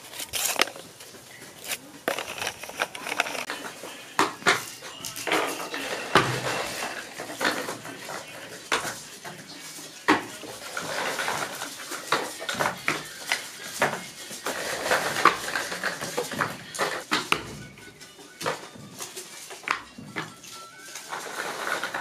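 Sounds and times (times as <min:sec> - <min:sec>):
cardboard tubes clattering: 0:00.0 - 0:22.0.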